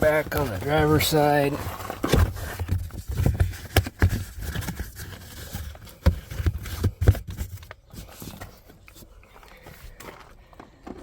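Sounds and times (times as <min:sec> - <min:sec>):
carpet scraping and rustling: 0:00.0 - 0:11.0.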